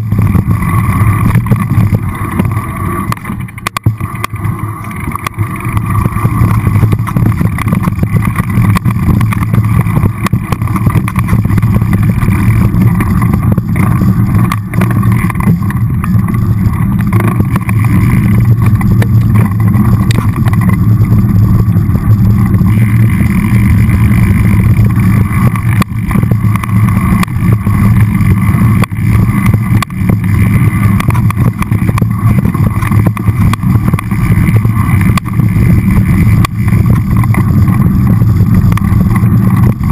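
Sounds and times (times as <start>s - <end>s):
bike tyres rumbling on dirt trail: 0.0s - 39.9s.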